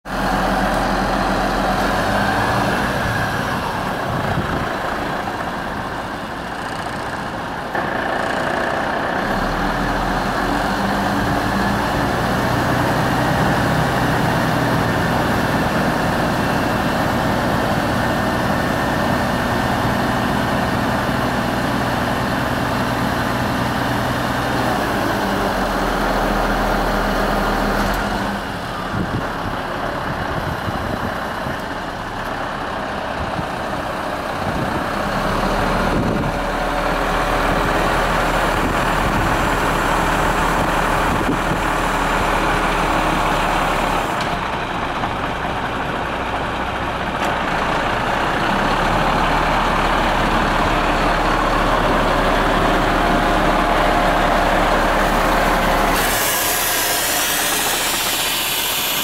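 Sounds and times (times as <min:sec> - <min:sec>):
truck diesel engine idling: 0:00.1 - 0:59.0.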